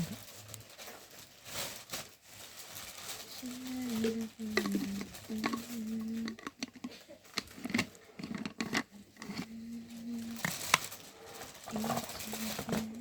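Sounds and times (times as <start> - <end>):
parcel packaging clicks and rustles: 0.0 - 13.0.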